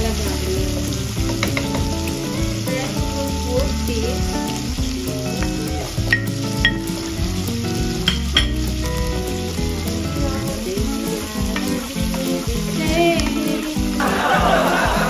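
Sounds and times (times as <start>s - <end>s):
background music: 0.0s - 15.0s
food sizzling in a pot: 0.0s - 15.0s.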